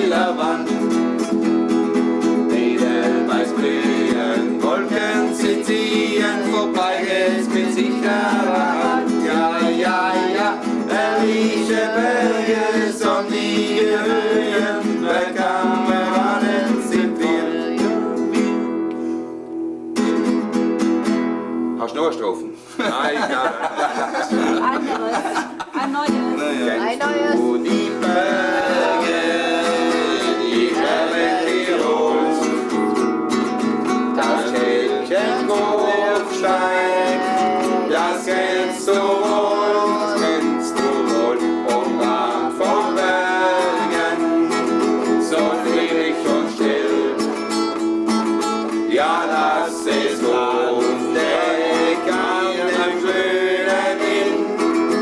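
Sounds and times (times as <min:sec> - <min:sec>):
man singing folk song: 0:00.0 - 0:18.6, 0:26.0 - 0:55.0
classical guitar strummed: 0:00.0 - 0:22.4, 0:23.4 - 0:55.0.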